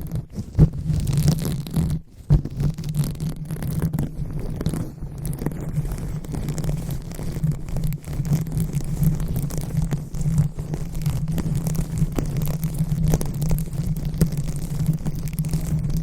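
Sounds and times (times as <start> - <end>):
fingers rubbing a microphone: 0.0 - 16.0.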